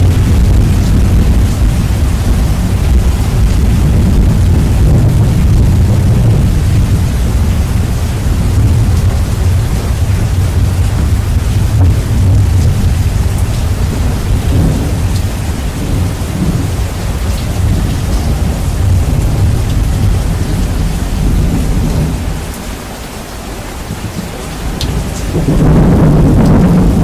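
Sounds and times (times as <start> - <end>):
rolling thunder: 0.0 - 22.9, 23.7 - 27.0
steady rain: 0.0 - 27.0.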